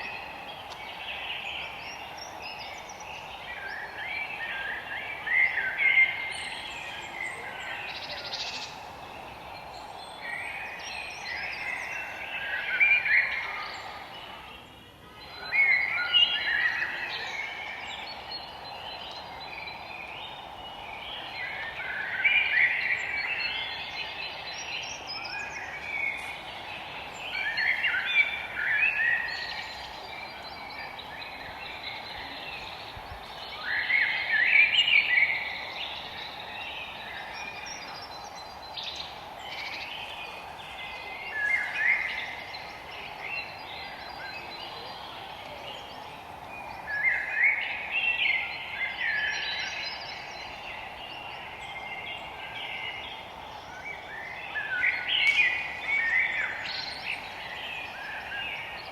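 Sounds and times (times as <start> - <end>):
forest birds singing: 0.0 - 58.9
steady background hiss: 0.0 - 58.9.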